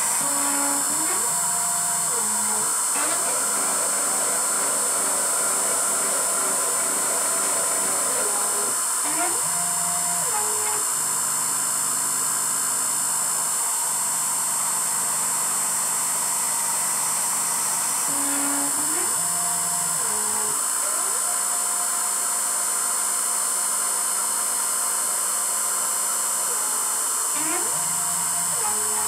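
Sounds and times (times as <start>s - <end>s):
feed motors gliding tones: 0.0s - 23.8s, 26.4s - 29.0s
milling machine spindle whine: 0.0s - 29.0s.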